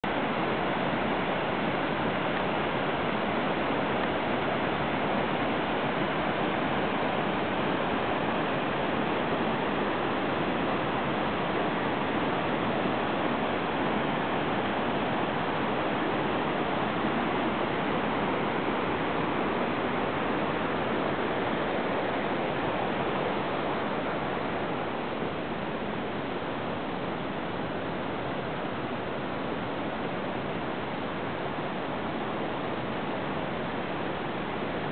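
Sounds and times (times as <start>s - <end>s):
river rushing over boulders: 0.0s - 34.9s.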